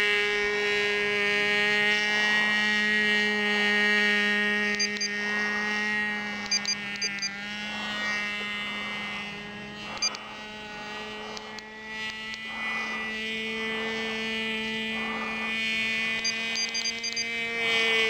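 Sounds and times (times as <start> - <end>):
model airplane engine buzzing: 0.0 - 18.0.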